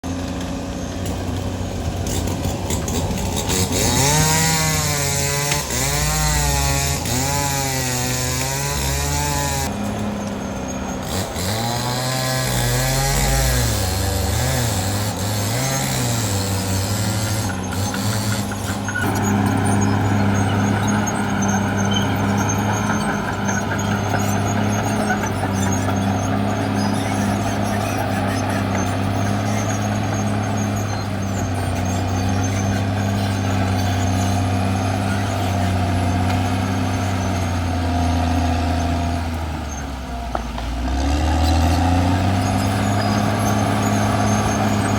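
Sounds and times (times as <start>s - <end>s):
bulldozer diesel engine working: 0.0s - 44.9s.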